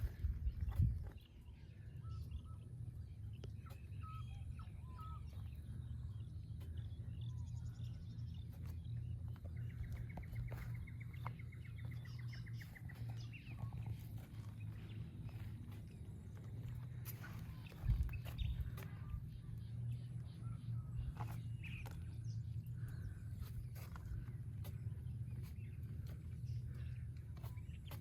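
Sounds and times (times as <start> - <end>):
bird trill: 0.0 - 28.0
low rumble: 0.0 - 28.0
small birds chirping: 0.0 - 28.0.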